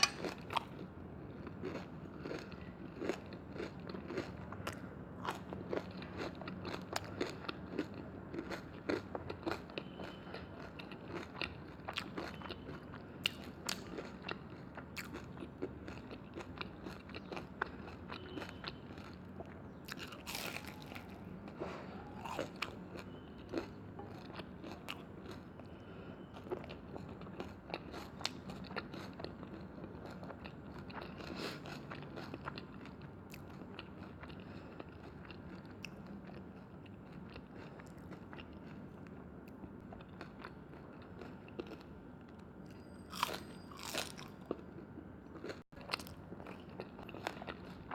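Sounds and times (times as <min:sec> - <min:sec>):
crunchy food chewing: 0:00.0 - 0:42.4, 0:43.1 - 0:47.9.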